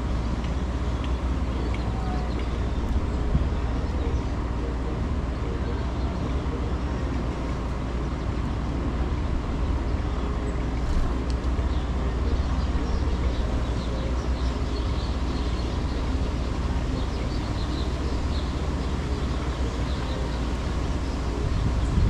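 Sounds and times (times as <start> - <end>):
small birds chirping: 0.0 - 8.2, 9.2 - 22.0
city traffic: 0.0 - 22.0
wind: 0.0 - 22.0.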